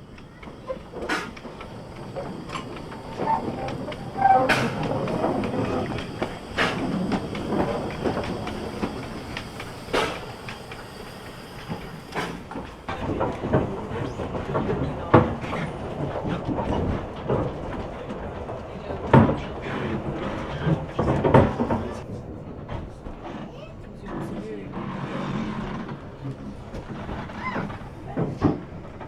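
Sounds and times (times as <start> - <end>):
train carriages rumbling on track: 0.0 - 29.0
wheels clanking on rail joints: 0.0 - 29.0.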